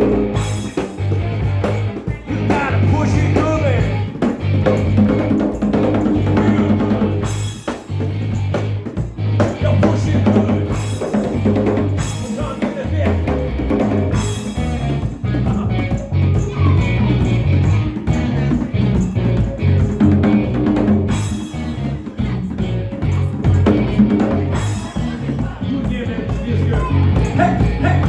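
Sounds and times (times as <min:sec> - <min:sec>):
live band playing: 0:00.0 - 0:28.0.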